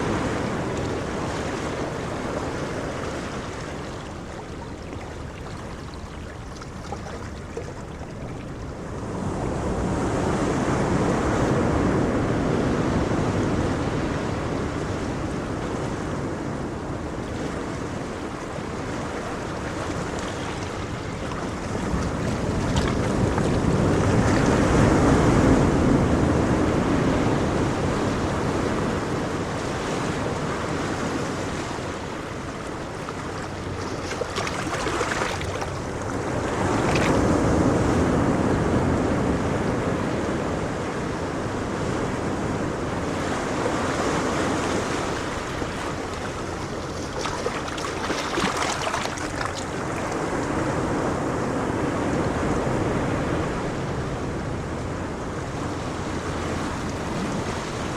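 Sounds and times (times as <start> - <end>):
ocean waves breaking on shore: 0.0 - 57.9
wind on microphone: 0.0 - 57.9.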